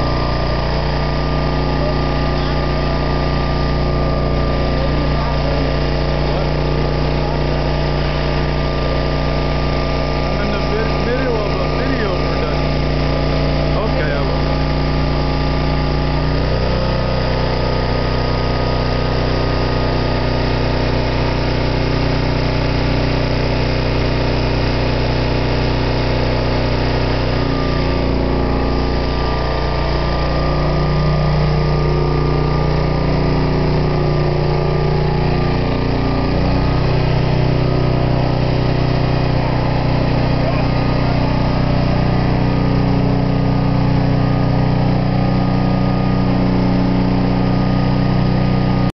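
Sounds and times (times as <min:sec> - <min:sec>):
welder engine running: 0:00.0 - 0:48.9.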